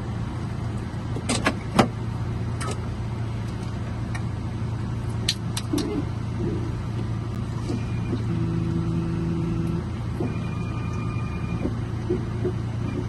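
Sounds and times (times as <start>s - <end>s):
car hum: 0.0s - 13.0s.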